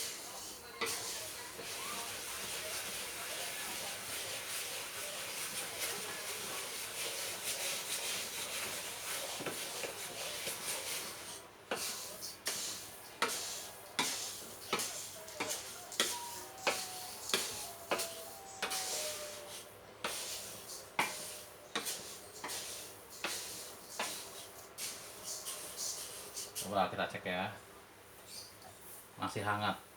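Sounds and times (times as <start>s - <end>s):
spatula scraping pan: 0.0s - 26.8s
grain roasting hiss: 0.0s - 28.2s.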